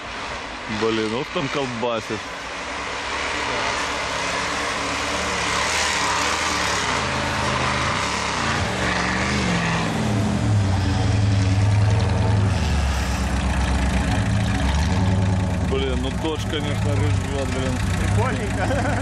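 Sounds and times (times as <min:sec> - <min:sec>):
off-road engines racing: 0:00.0 - 0:19.0.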